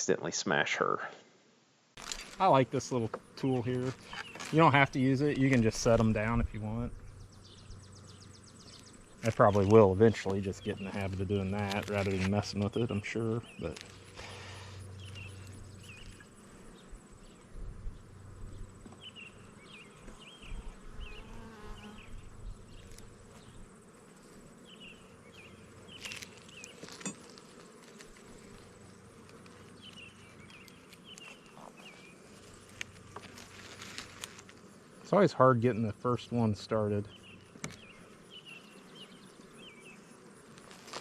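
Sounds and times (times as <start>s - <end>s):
honeybees buzzing: 2.0s - 41.0s.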